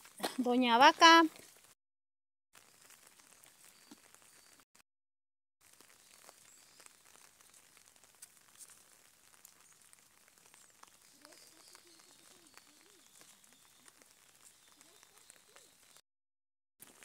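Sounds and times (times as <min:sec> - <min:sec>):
small crackles: 0:00.0 - 0:01.8, 0:02.6 - 0:04.8, 0:05.6 - 0:16.0, 0:16.8 - 0:17.0.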